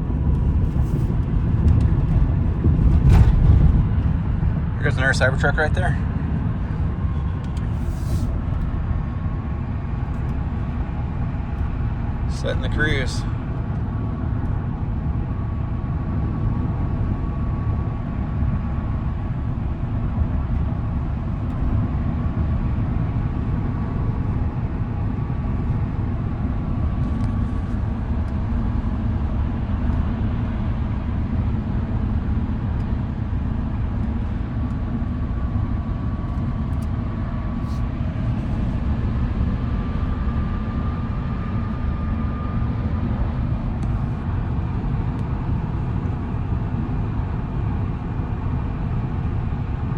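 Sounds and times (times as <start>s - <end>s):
road and tyre noise: 0.0s - 49.9s.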